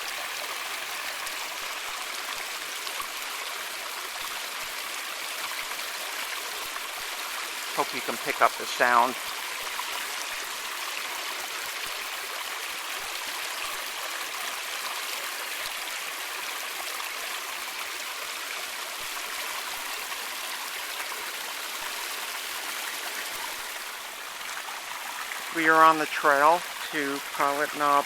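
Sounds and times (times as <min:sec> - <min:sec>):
stream running over rocks: 0:00.0 - 0:28.0.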